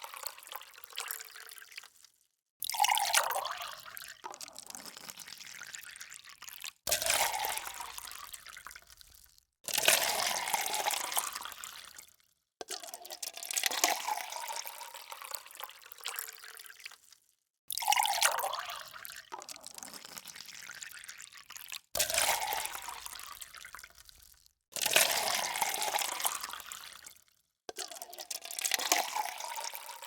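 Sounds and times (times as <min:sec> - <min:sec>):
water splashing into a cup: 0:00.0 - 0:17.1, 0:17.7 - 0:30.0.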